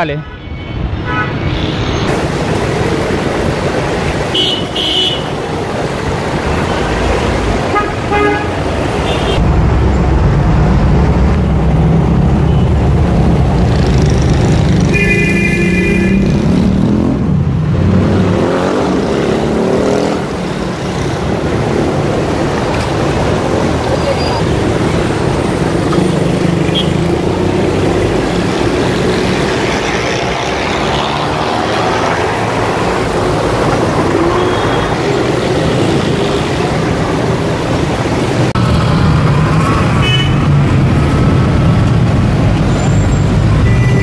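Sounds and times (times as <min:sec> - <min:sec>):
traffic engines running: 0:00.0 - 0:44.0
motorcycles passing close: 0:05.4 - 0:44.0.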